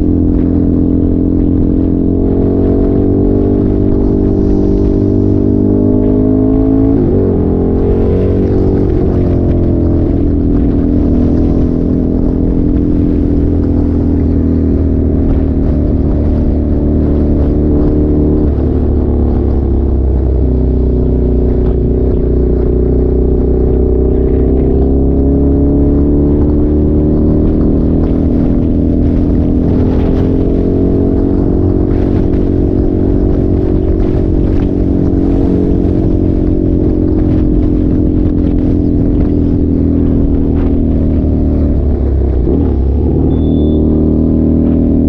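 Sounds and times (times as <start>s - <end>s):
engine revving: 0.0s - 45.0s.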